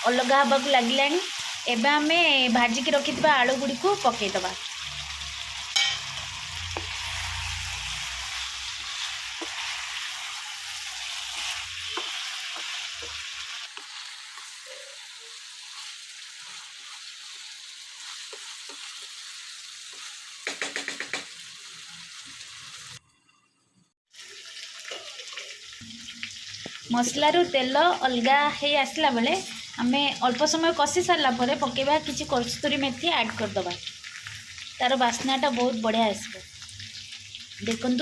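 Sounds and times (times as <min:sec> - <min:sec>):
curry sizzling in oil: 0:00.0 - 0:23.0, 0:24.1 - 0:38.0.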